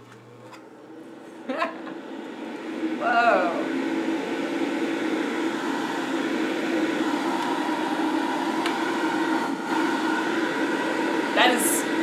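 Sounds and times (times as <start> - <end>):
duct fan rushing air: 1.1 - 12.0.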